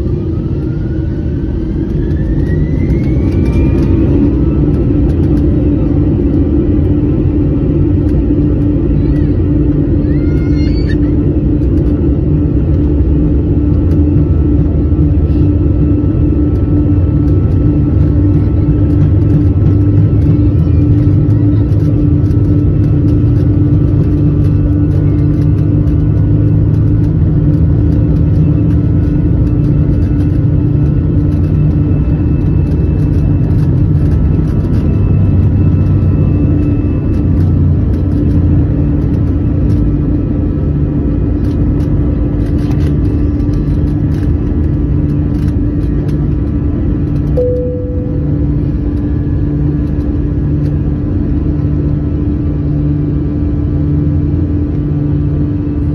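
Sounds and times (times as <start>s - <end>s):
jet engines rumbling in cabin: 0.0s - 55.9s.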